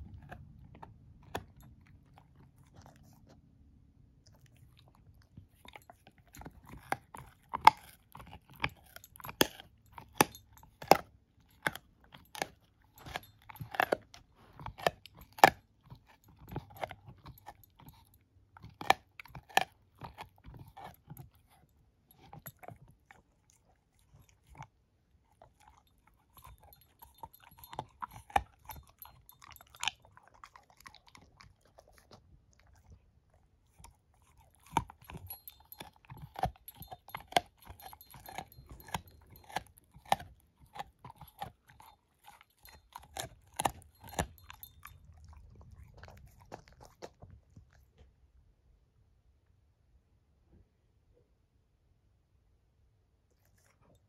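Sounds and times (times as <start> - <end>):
puppy gnawing chew stick: 0.0 - 48.2, 53.3 - 54.0.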